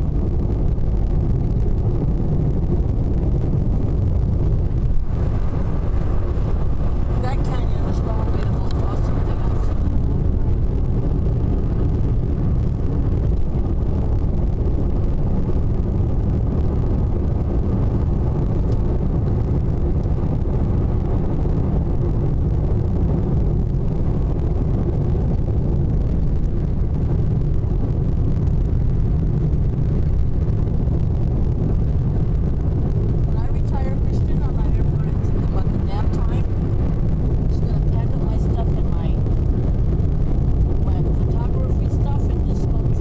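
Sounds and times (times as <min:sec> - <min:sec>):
car driving rumble: 0:00.0 - 0:43.0.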